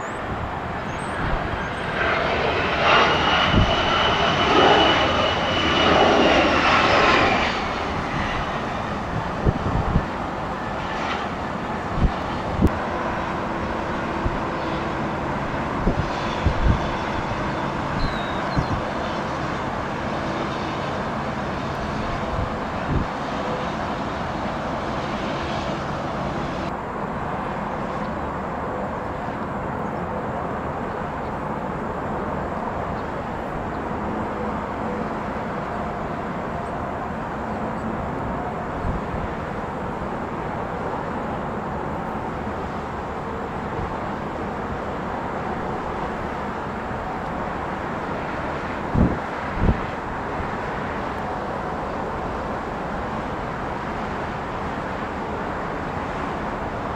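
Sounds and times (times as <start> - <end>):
jet engine noise: 0.0 - 56.9.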